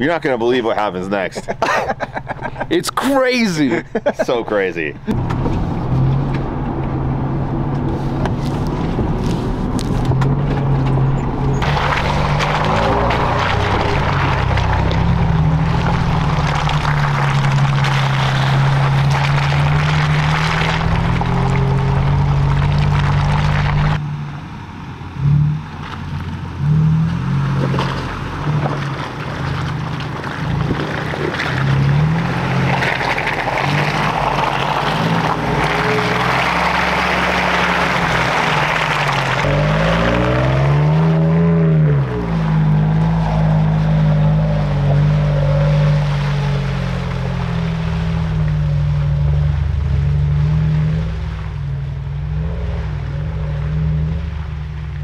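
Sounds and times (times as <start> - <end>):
suv engine running: 0.0 - 55.0
tyre and road noise: 0.0 - 55.0.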